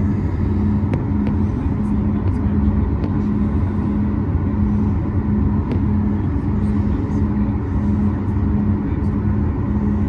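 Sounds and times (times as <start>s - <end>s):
aircraft cabin engine rumble: 0.0s - 10.0s
low hum: 0.0s - 10.0s.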